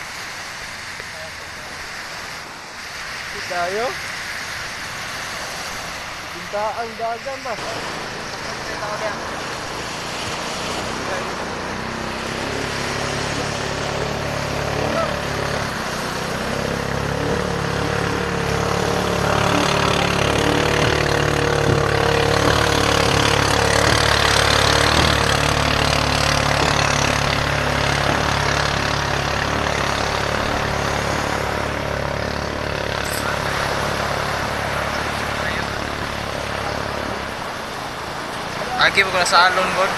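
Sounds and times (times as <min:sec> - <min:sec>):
boat engine passing by: 0:00.0 - 0:39.9
surf washing: 0:00.0 - 0:39.9.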